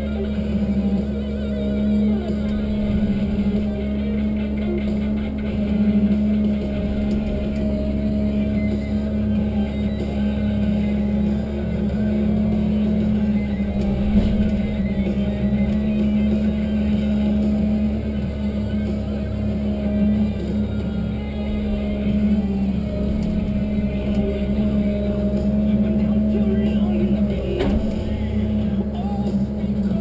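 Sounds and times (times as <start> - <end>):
diesel engine and hydraulics droning: 0.0 - 30.0.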